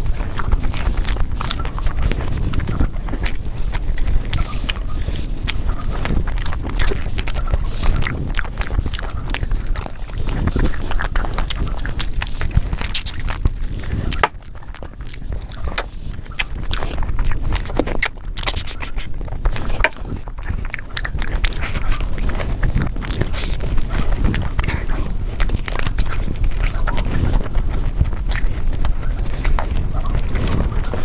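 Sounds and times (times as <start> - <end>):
fingers squelching in food: 0.0 - 31.0
wet chewing and lip-smacking: 0.0 - 31.0.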